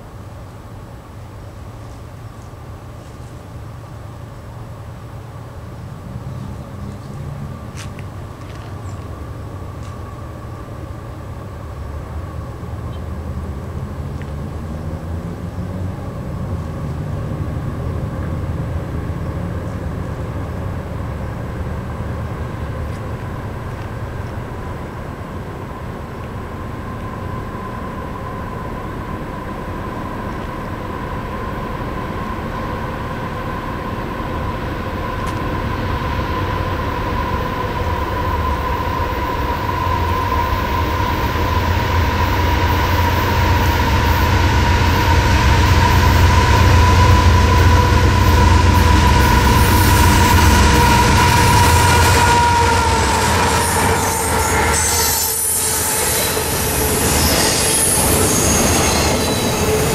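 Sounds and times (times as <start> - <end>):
freight train rumble: 0.0 - 59.9
steady high whine: 0.0 - 59.9.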